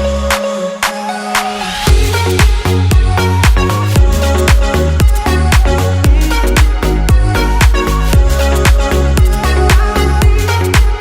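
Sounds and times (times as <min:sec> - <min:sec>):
electronic dance music: 0:00.0 - 0:11.0
heavy kick drum: 0:01.9 - 0:11.0.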